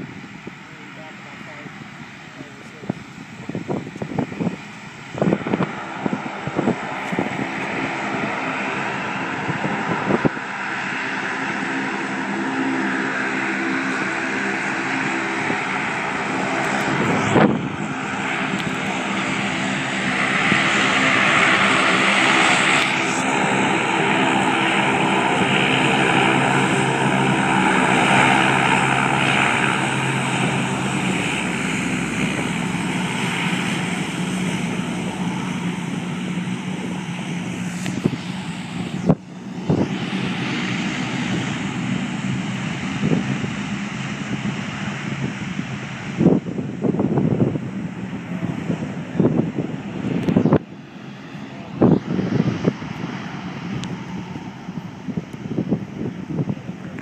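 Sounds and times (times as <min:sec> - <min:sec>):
turboprop aircraft taxiing: 0:00.0 - 0:57.0.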